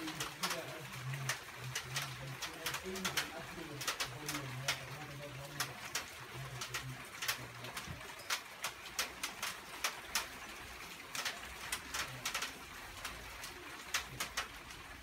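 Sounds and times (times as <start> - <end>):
soft hiss of rain: 0.0 - 15.0
water dripping on hard surface: 0.0 - 15.0.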